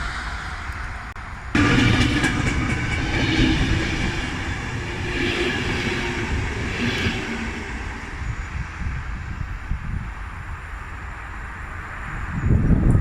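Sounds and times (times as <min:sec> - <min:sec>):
train passing rumble: 0:00.0 - 0:12.3.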